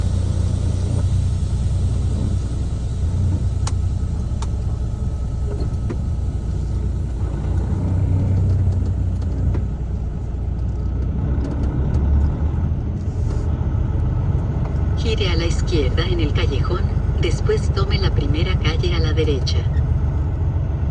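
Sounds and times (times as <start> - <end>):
truck engine and road noise: 0.0 - 20.9.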